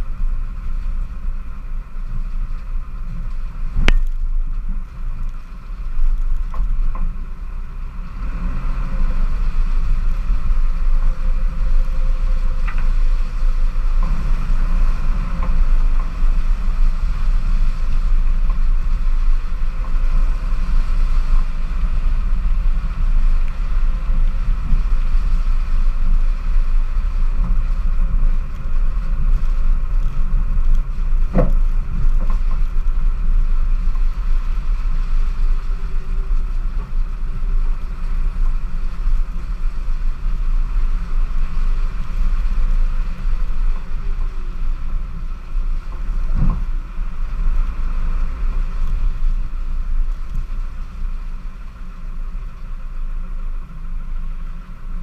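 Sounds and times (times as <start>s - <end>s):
car and tyres rumbling: 0.0s - 55.0s.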